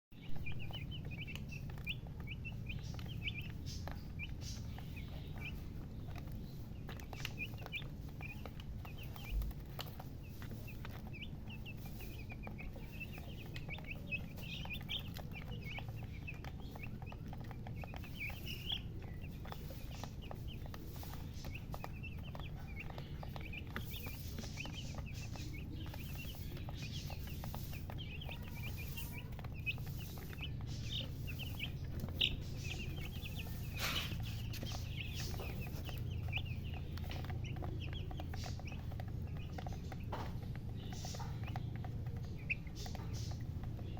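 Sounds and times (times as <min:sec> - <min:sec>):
baby chicks chirping: 0:00.0 - 0:43.9
steady low hum: 0:00.1 - 0:43.9.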